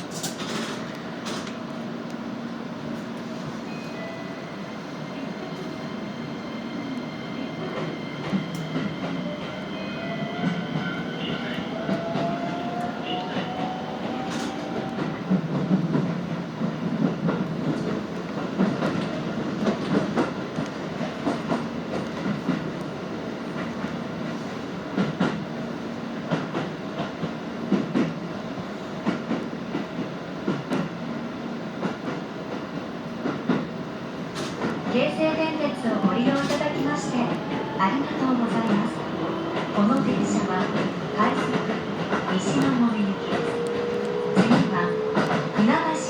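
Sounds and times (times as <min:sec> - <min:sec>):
train running rumble: 0:07.6 - 0:31.0, 0:31.7 - 0:46.0.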